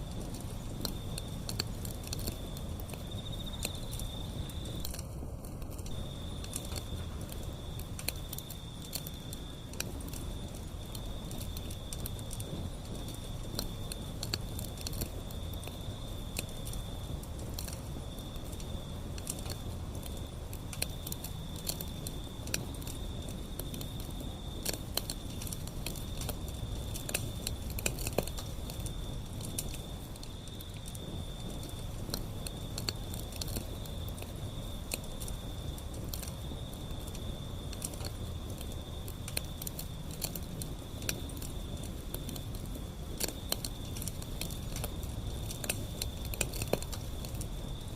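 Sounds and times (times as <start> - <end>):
fire crackling and popping: 0.0 - 47.9
low rumble of flames: 0.0 - 47.9.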